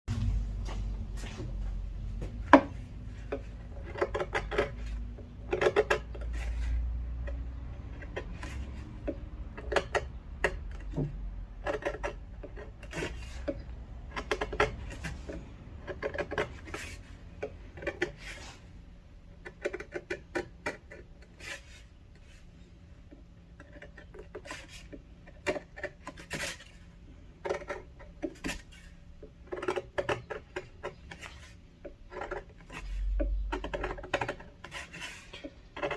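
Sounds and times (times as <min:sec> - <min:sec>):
chisel scraping wood: 0:02.2 - 0:35.9.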